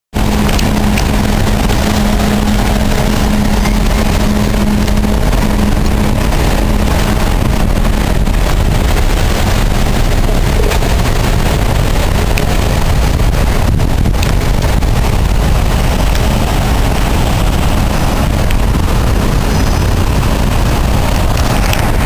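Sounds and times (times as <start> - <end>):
low engine hum: 0.1 - 22.0
cars driving through water: 0.2 - 22.0.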